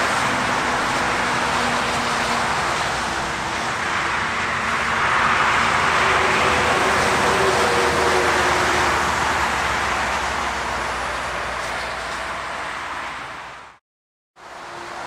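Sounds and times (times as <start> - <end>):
highway traffic rushing: 0.0 - 13.8, 14.4 - 15.0.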